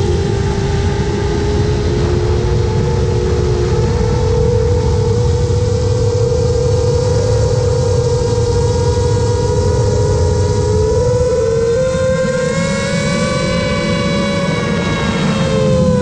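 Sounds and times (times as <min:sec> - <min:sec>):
drone motors whining: 0:00.0 - 0:16.0
wind rumbling on microphone: 0:00.0 - 0:16.0.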